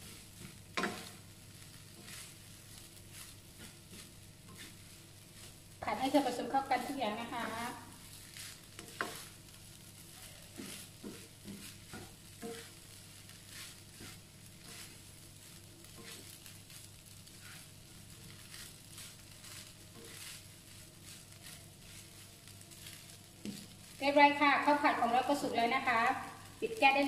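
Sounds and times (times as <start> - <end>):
rice sizzling in wok: 0.0 - 27.0
spatula scraping wok: 0.0 - 27.0.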